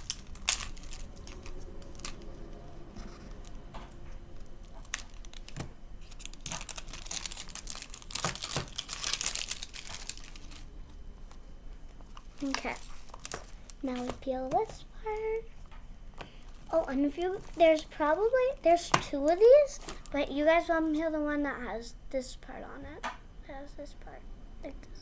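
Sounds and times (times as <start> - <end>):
plastic wrapping crinkling: 0.0 - 20.4.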